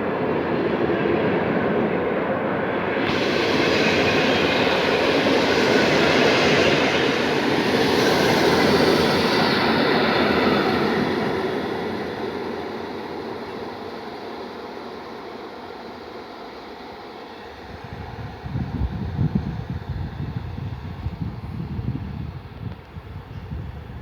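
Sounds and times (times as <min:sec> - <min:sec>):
passenger train passing: 0:00.0 - 0:24.0.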